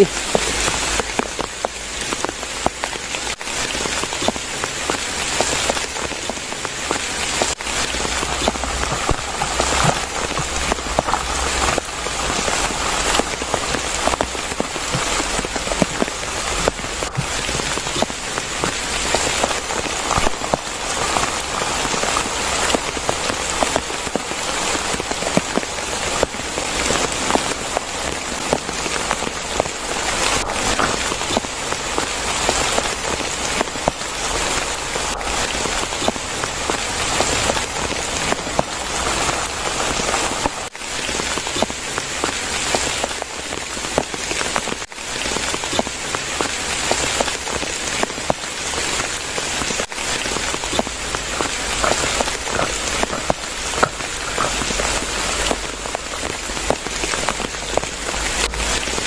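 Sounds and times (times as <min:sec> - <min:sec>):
rain falling in forest: 0:00.0 - 0:59.0
raindrops clicking close by: 0:00.0 - 0:59.0.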